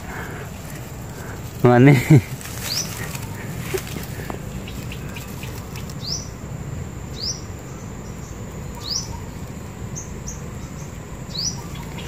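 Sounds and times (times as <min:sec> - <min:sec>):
bird chirping: 0:00.0 - 0:06.5, 0:07.1 - 0:12.0
low background noise: 0:00.0 - 0:12.0.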